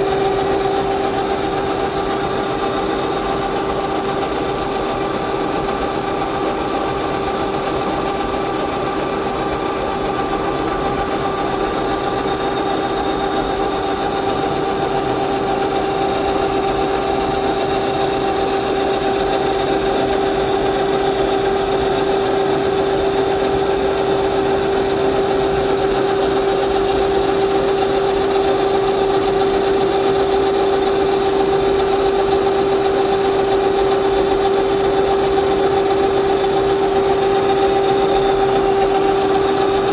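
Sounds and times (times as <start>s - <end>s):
metalworking machine humming: 0.0s - 39.9s.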